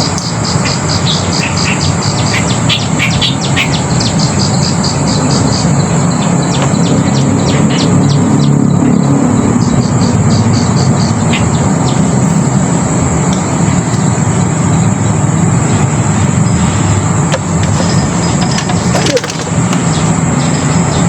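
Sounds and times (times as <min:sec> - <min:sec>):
bird chirping: 0:00.0 - 0:14.2, 0:14.8 - 0:21.0
high-pitched insect drone: 0:00.0 - 0:21.0.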